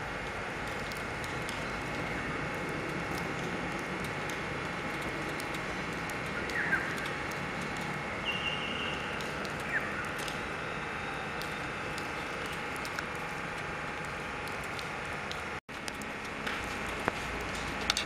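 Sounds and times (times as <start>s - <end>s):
outdoor background hum: 0.0s - 18.0s.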